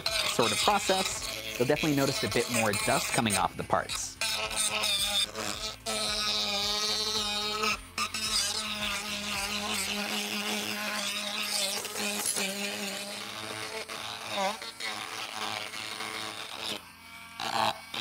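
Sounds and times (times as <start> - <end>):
rotary tool grinding whine: 0.0 - 18.0.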